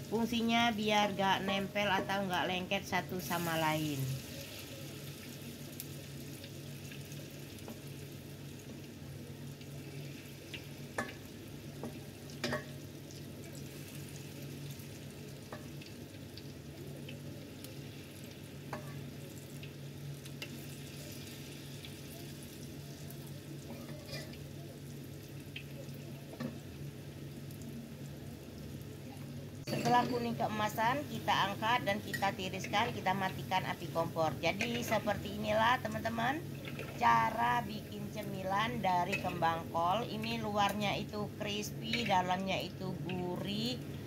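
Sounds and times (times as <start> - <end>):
oil sizzling and bubbling: 0.0 - 44.0.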